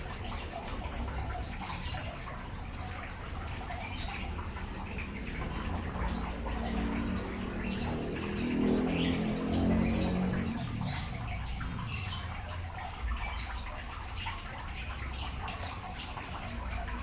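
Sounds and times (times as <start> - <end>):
running water splashing: 0.0 - 17.0.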